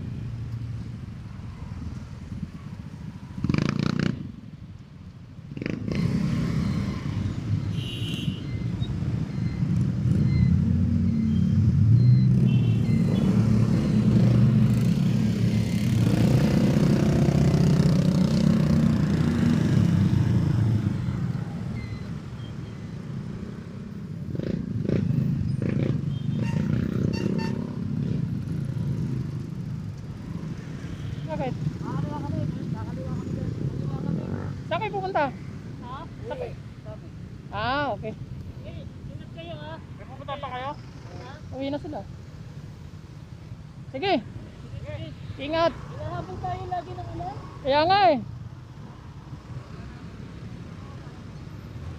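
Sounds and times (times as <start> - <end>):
wind and road noise: 0.0 - 51.9.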